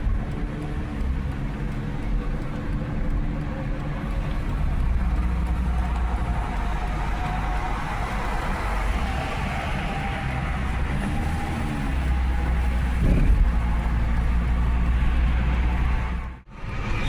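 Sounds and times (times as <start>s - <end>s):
car engine pulling: 0.0s - 17.0s
road and wind noise: 0.0s - 17.0s.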